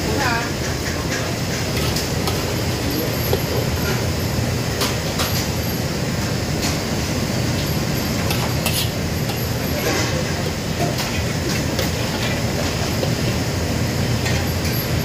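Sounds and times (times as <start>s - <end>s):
wok range and exhaust rumbling: 0.0s - 15.0s.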